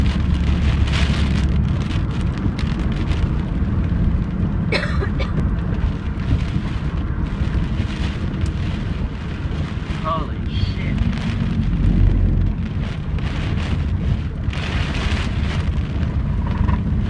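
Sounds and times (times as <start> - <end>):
heavy rain hissing on car: 0.0 - 17.0
storm wind rumbling: 0.0 - 17.0.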